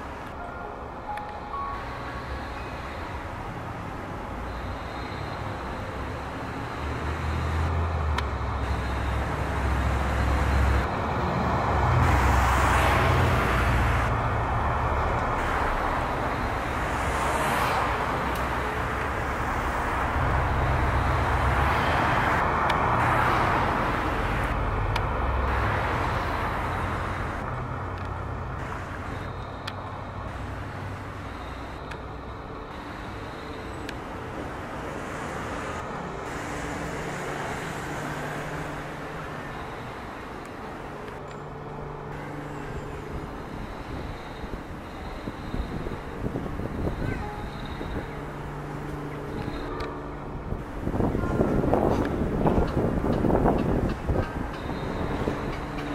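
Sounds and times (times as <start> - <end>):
vehicles passing with engine rumble: 0.0 - 55.9.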